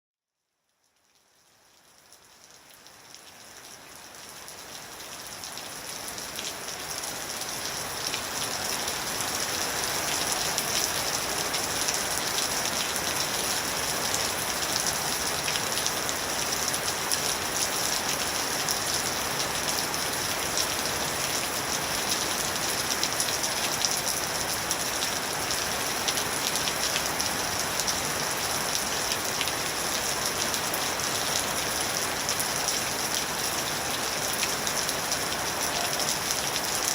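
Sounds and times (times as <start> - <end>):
steady rain falling: 0.6 - 36.9.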